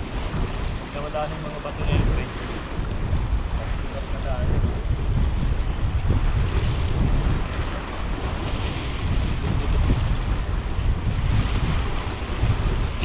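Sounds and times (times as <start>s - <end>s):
sea waves on shore: 0.0s - 13.0s
wind buffeting microphone: 0.0s - 13.0s.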